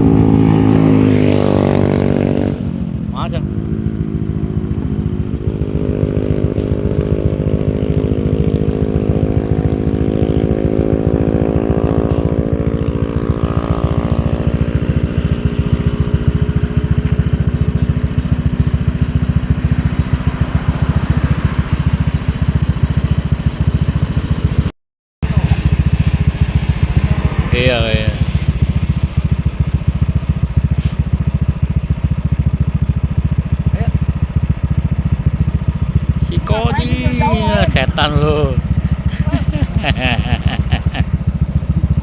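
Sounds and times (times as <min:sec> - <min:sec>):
motorcycle engine accelerating: 0:00.0 - 0:42.0
road noise: 0:00.0 - 0:42.0.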